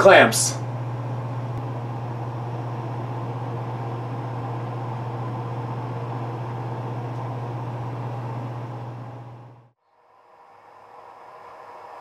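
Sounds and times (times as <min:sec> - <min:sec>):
low electrical hum: 0:00.0 - 0:09.8.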